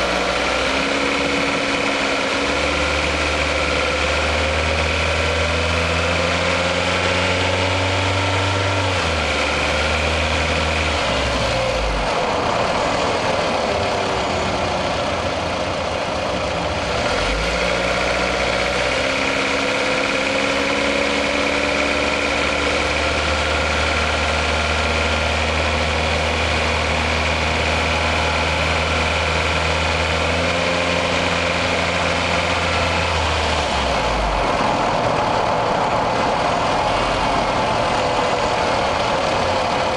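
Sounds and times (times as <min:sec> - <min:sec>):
car engine running under load: 0:00.0 - 0:39.9.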